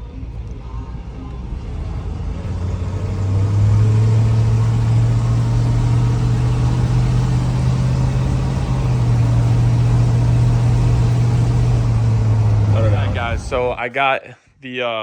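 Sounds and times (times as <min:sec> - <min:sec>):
truck engine droning: 0:00.0 - 0:13.9.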